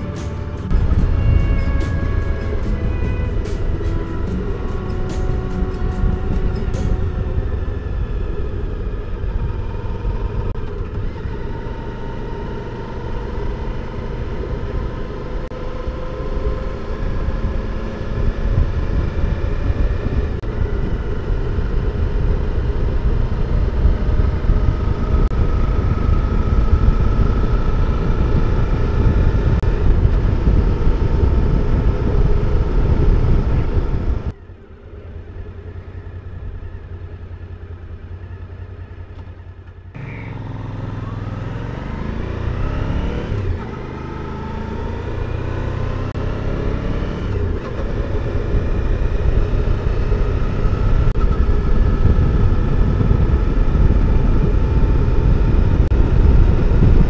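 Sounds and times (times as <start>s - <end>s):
motorcycle engine running: 0.0s - 57.0s
wind rumble: 0.0s - 57.0s.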